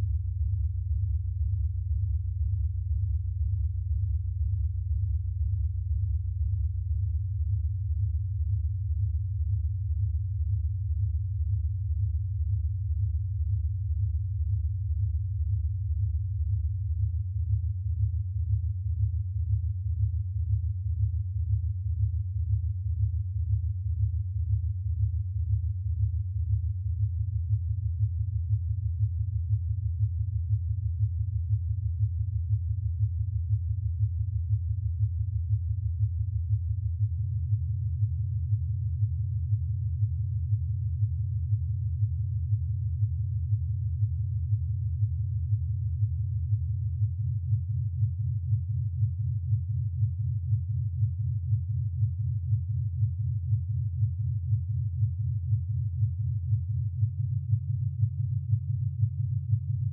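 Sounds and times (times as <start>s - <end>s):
low pulsing sine tone hum: 0.0s - 59.9s.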